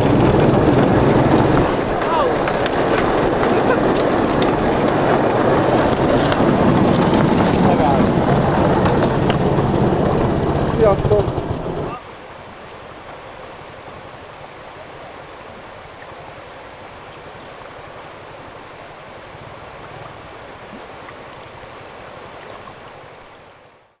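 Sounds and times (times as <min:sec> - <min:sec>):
river flowing over stones: 0:00.0 - 0:24.0.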